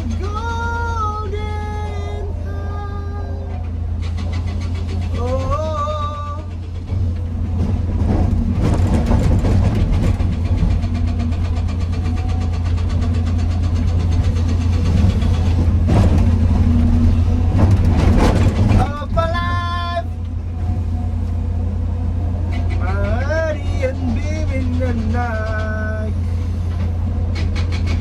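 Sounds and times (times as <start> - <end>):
excavator clatter: 0.0 - 28.0
excavator diesel engine running: 0.0 - 28.0.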